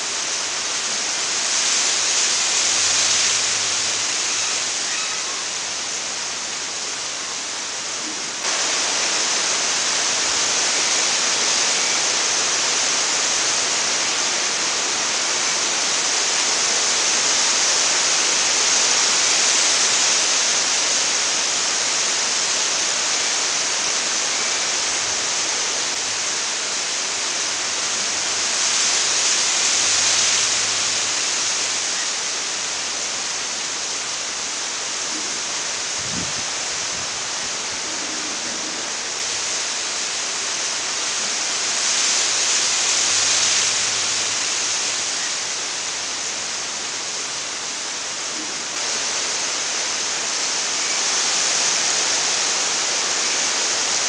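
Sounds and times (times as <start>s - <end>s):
wind rushing through trees: 0.0s - 54.0s.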